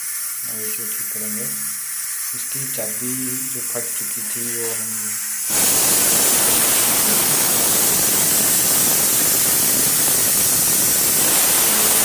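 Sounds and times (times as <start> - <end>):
steam iron hissing: 0.0 - 12.0.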